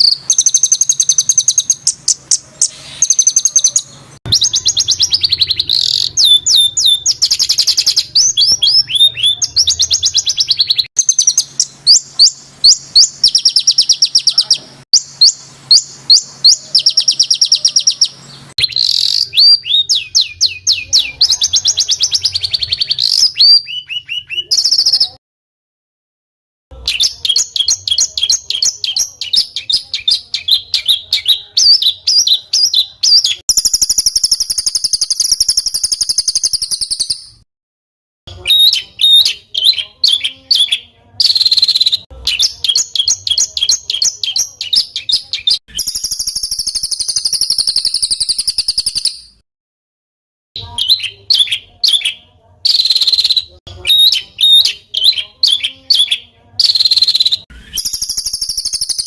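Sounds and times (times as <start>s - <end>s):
songbird singing: 0.0s - 25.2s, 26.7s - 37.4s, 38.3s - 49.4s, 50.6s - 59.0s.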